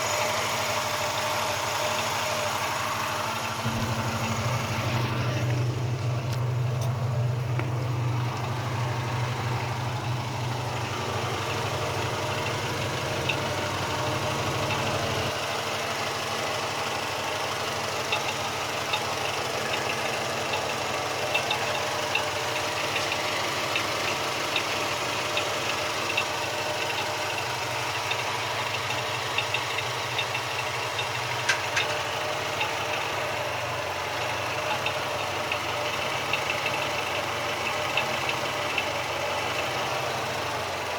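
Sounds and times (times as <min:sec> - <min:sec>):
car engine idling: 0:00.0 - 0:40.9
engine ticking knock: 0:00.0 - 0:40.9.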